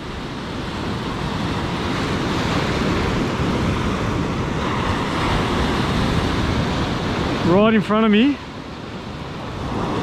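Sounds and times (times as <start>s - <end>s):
ocean surf breaking on beach: 0.0s - 10.0s.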